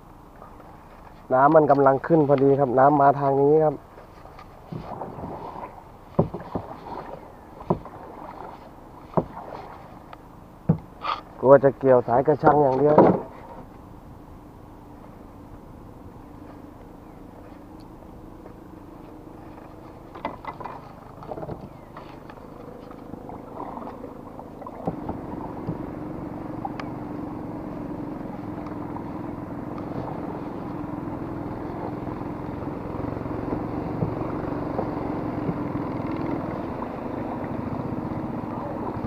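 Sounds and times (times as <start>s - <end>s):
motor engine humming: 0.0s - 39.0s.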